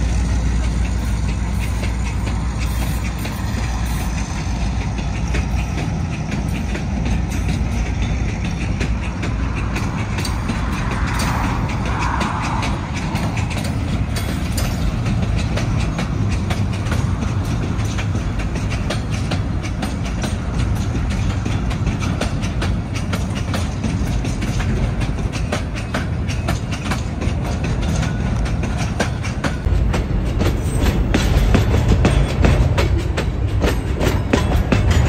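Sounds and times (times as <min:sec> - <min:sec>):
freight train wheels rumbling: 0:00.0 - 0:35.0
wheels and couplings clanking: 0:00.0 - 0:35.0.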